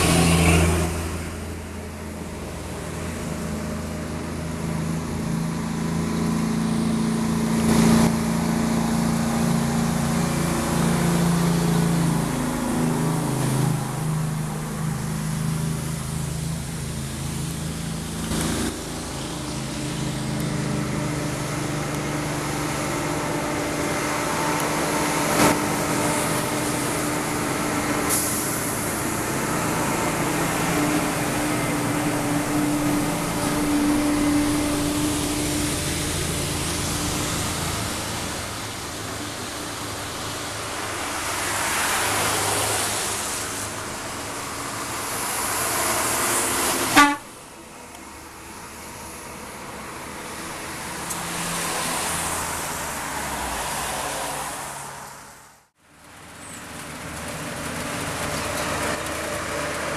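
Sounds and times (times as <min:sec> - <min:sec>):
diesel trucks passing: 0:00.0 - 0:59.9
tyre hiss on wet road: 0:06.2 - 0:59.9.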